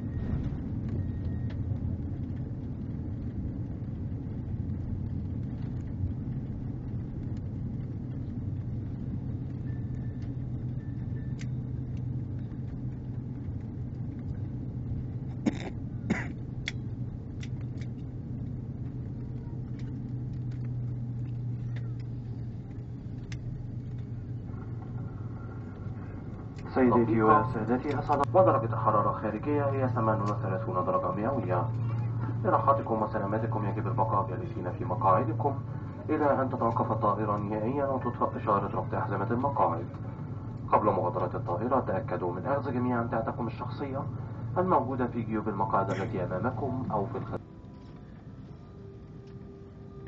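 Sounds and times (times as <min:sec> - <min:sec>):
airplane cabin engine rumble: 0:00.0 - 0:50.0.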